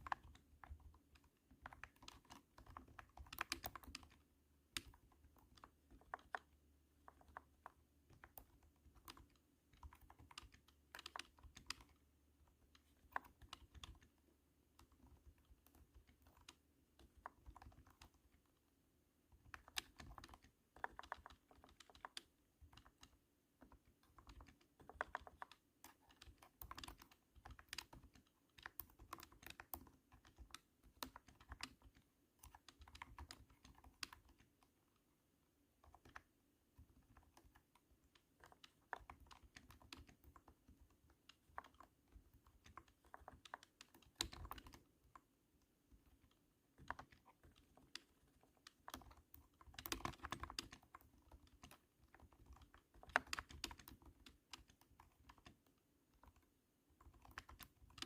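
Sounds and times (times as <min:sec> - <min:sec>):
keyboard typing: 0:00.0 - 0:58.0.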